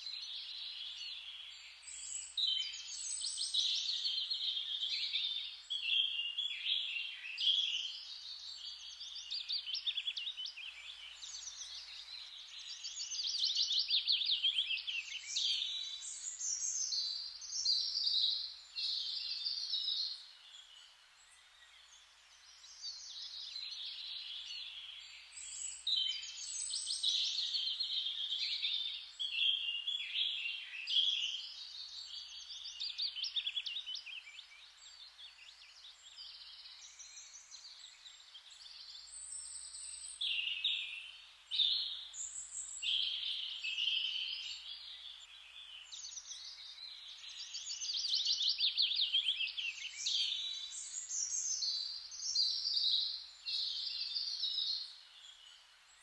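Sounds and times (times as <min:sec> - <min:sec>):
faint steady hiss: 0:00.0 - 0:56.0
songbirds chirping and trilling: 0:00.0 - 0:56.0.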